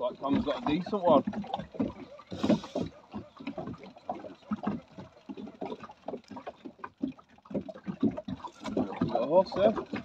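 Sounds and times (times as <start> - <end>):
water slapping against boat hull: 0.0 - 10.0.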